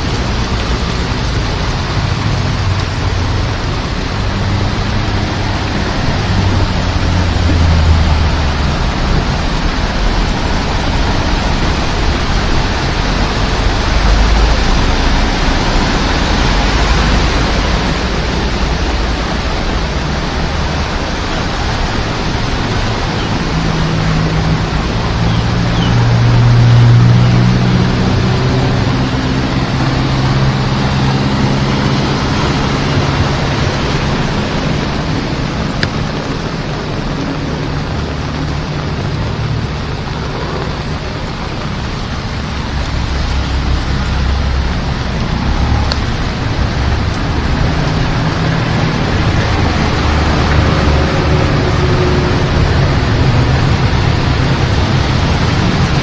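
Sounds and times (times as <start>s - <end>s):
heavy rain falling: 0.0s - 56.0s
vehicle engine humming: 0.0s - 56.0s.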